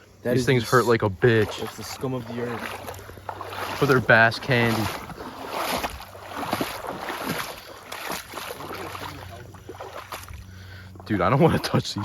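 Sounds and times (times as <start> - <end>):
creek water sloshing and splashing: 0.0 - 12.0.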